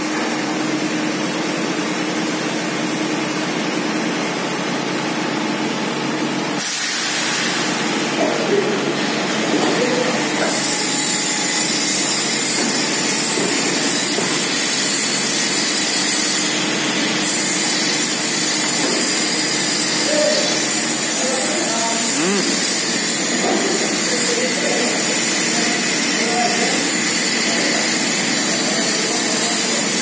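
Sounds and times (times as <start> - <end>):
machine and air noise: 0.0 - 30.0.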